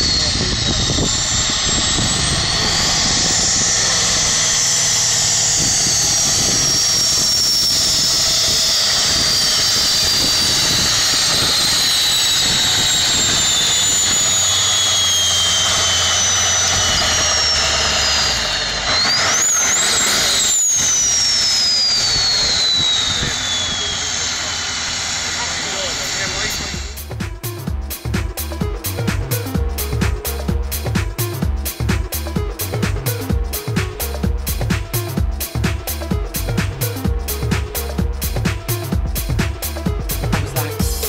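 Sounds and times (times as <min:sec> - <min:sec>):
tractor engine running flat out: 0:00.0 - 0:41.0.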